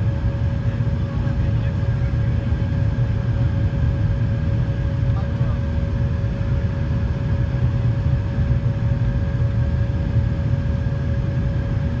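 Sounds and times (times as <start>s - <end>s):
airplane cabin jet rumble: 0.0s - 12.0s
steady hum: 0.0s - 12.0s.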